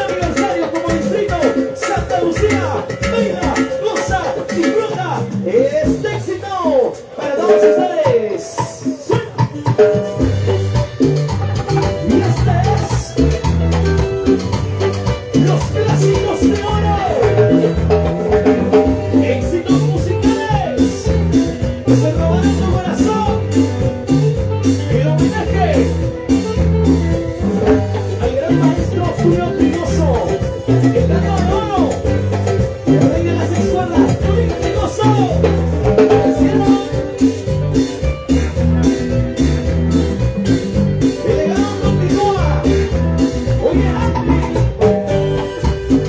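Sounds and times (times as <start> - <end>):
bass line: 0.0 - 46.0
drums dance beat: 0.0 - 46.0
electric lead guitar: 0.0 - 46.0
keyboard: 0.0 - 46.0.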